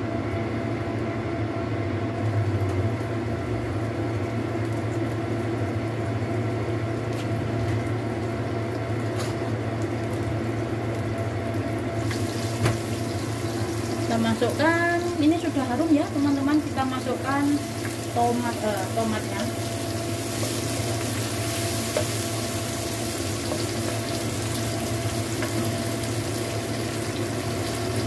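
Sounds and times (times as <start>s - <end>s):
steady hum: 0.0s - 28.0s
food sizzling in oil: 2.2s - 28.0s.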